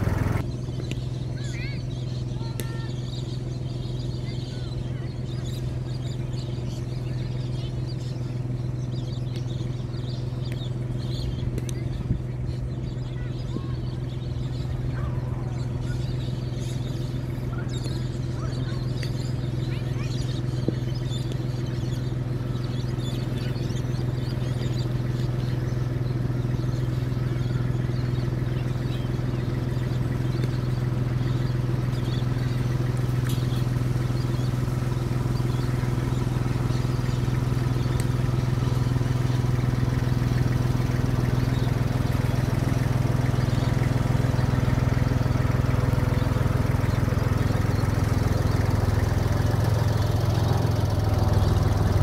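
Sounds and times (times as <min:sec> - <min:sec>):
roller engine running: 0:00.0 - 0:52.0.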